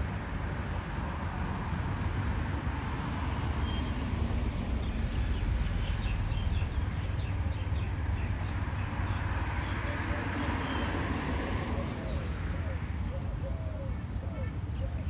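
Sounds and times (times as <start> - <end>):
low outdoor rumble: 0.0 - 13.0
small birds chirping: 0.0 - 13.4.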